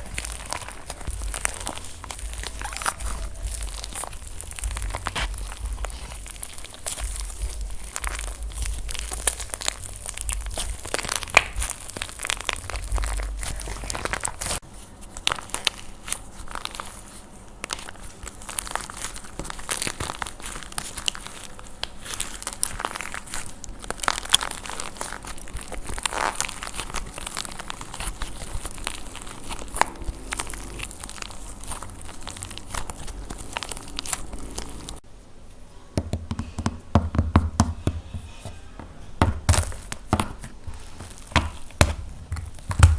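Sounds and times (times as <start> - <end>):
dry clay crunching and cracking: 0.0 - 35.1, 39.2 - 42.9.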